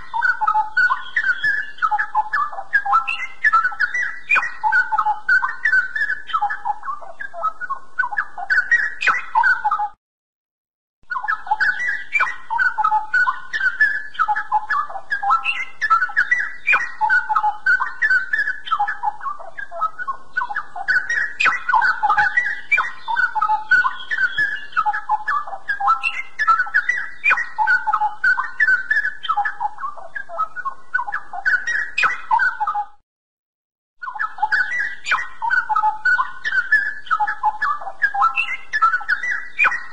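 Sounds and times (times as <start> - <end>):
bird singing warbling song: 0.0 - 10.0, 11.0 - 33.0, 34.0 - 39.9.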